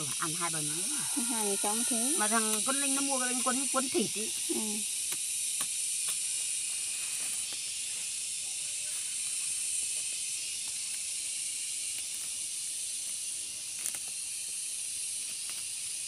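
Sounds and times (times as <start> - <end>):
greens rustling being cut: 0.0 - 8.2, 8.8 - 16.0
shrill insect chorus: 0.0 - 16.0.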